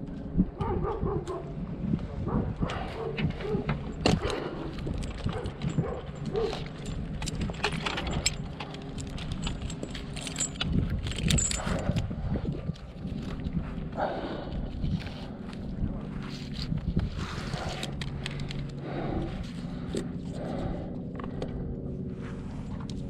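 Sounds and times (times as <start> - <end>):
steady low rumble: 0.0 - 23.0
metal climbing gear jangling: 2.6 - 21.7.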